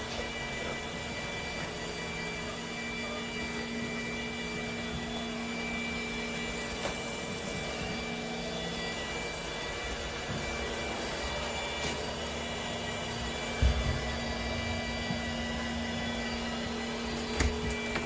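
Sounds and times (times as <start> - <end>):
machine hum and whine: 0.0 - 18.0.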